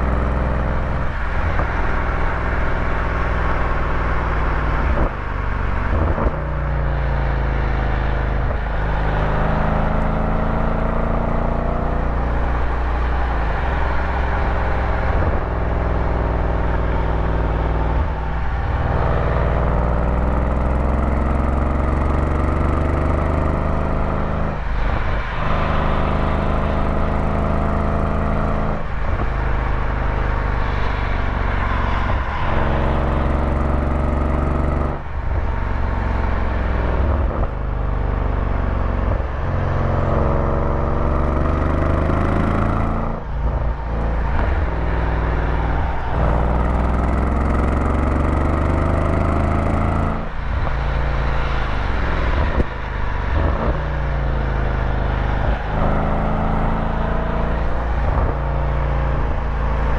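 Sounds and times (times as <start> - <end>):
vehicle engine revving under load: 7.4 - 59.9.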